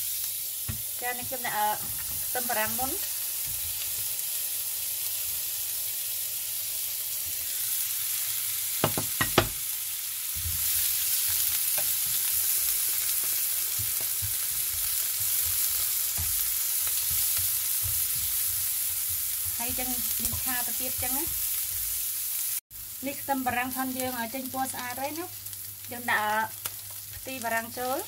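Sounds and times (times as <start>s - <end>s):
onions sizzling in a pan: 0.0s - 28.0s.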